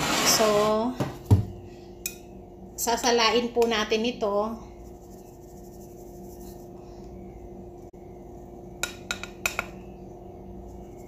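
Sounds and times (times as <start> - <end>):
steady low hum: 1.0 - 11.0.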